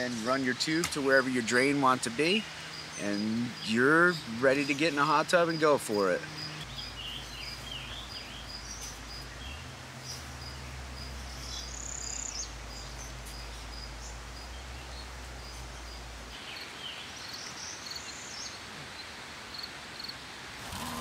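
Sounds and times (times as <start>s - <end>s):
birds chirping: 0.0s - 19.1s
background hiss: 0.0s - 21.0s.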